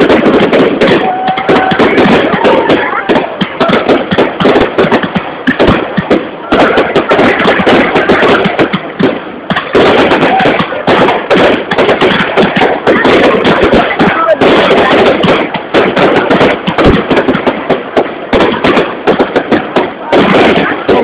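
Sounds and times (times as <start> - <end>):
fireworks crackling and popping: 0.0 - 21.0.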